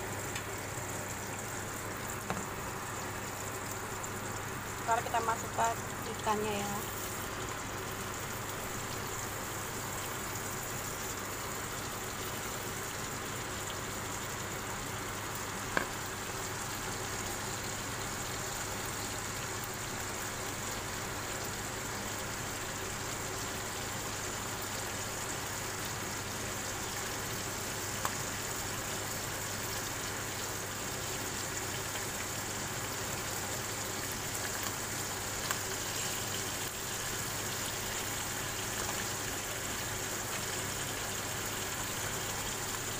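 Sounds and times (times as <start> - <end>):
fish sizzling in butter: 0.2 - 42.9.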